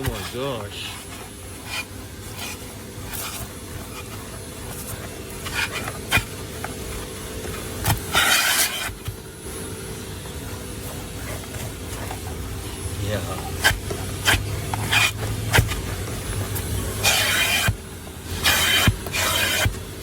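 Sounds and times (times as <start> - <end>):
vacuum cleaner humming: 0.0 - 20.0.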